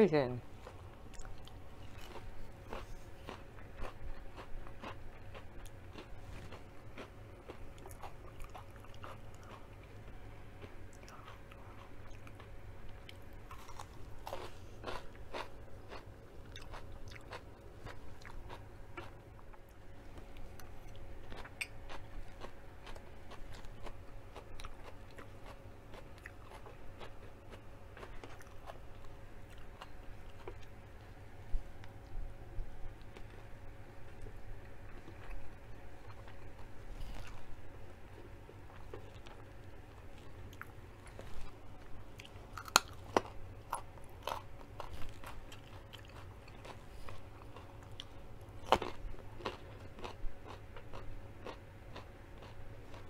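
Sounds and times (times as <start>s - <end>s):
faint steady hum: 0.0s - 53.0s
chewing crunchy food: 0.4s - 53.0s.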